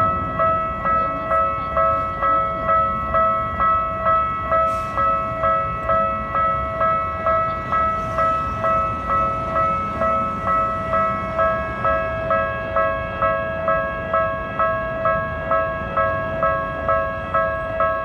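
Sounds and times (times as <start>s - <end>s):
level-crossing warning bell: 0.0s - 18.0s.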